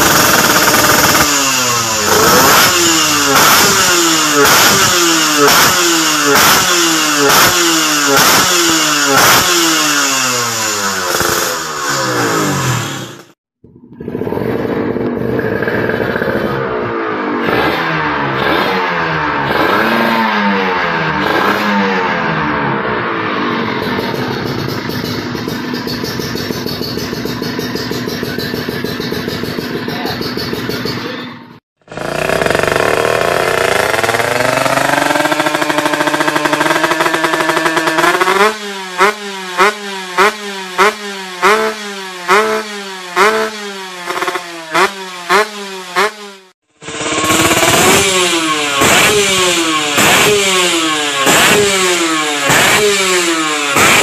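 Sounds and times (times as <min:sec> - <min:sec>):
two-stroke motorcycle engines revving: 0:00.0 - 0:54.0.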